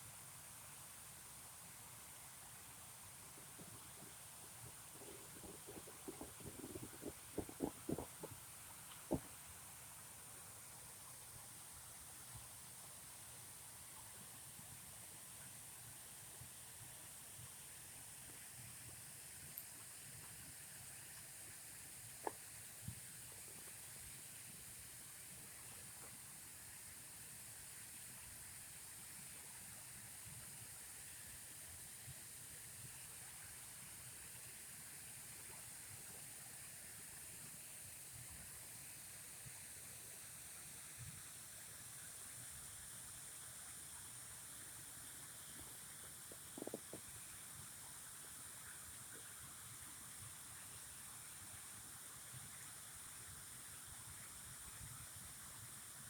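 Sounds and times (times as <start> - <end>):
running water hiss: 0.0 - 56.0.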